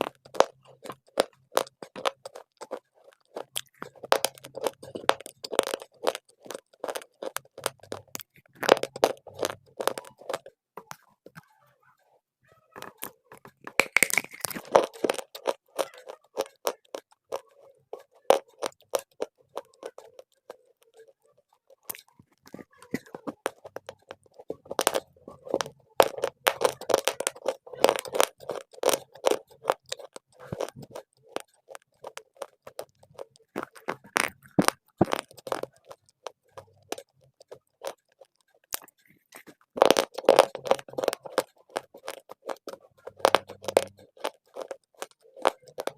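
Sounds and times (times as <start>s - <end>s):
dry clay being chewed: 0.0s - 45.9s.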